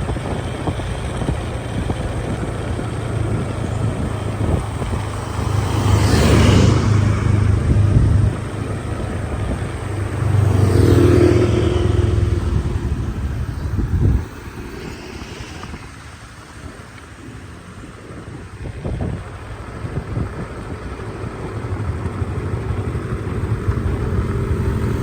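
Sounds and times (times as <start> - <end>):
motorcycle engine running: 0.0 - 25.0
rushing wind noise: 0.0 - 25.0.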